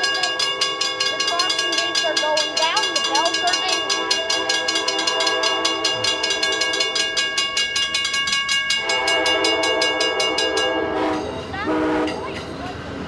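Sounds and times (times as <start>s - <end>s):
crossing warning bell ringing: 0.0s - 13.0s.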